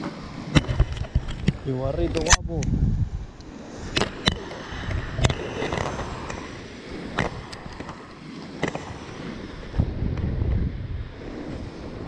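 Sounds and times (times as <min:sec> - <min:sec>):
wind and surf rumble: 0:00.0 - 0:12.0.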